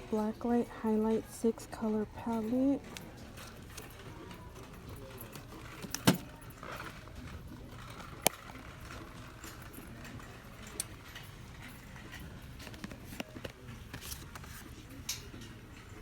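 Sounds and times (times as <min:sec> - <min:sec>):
shop background noise: 0:00.0 - 0:16.0.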